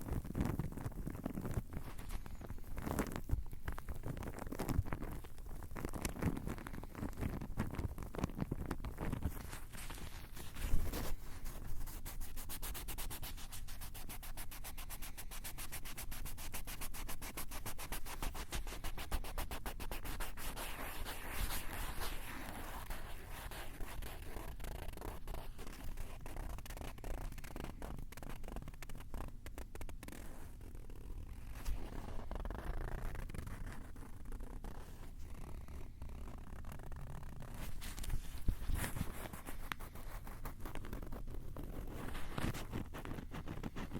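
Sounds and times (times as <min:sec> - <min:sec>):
scratching on recorder microphones: 0:00.0 - 0:43.9.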